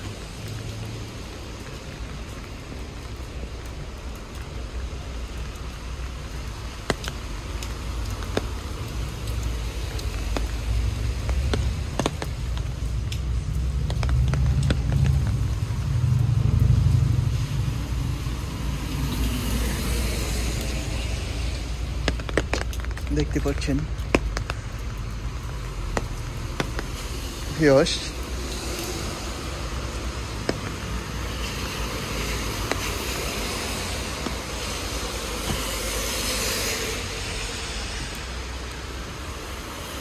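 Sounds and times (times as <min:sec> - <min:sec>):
vehicle rumble on wet street: 0:00.0 - 0:40.0.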